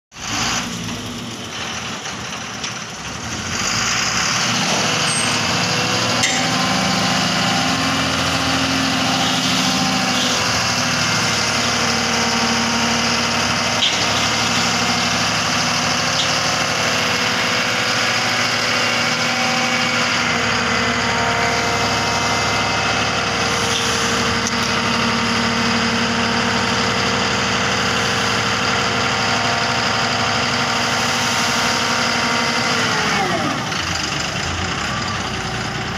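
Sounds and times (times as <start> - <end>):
diesel truck engine revving: 0.2 - 35.9.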